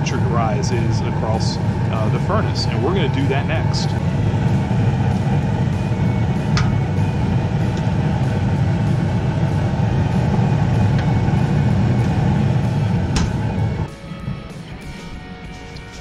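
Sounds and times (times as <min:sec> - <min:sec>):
furnace burner and blower rumble: 0:00.0 - 0:16.0.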